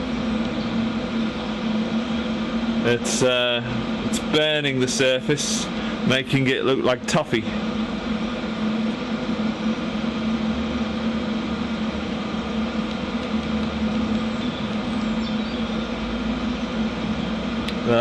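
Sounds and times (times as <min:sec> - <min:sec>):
welding machine hum: 0:00.0 - 0:18.0.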